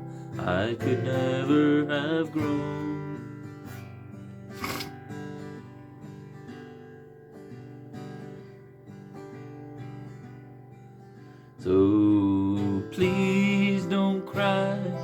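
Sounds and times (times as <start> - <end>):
acoustic guitar playing slowly: 0.0 - 15.0.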